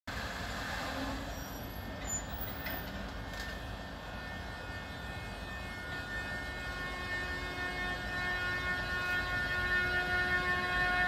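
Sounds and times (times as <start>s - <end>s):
electric locomotive rumble and hiss: 0.1s - 11.0s.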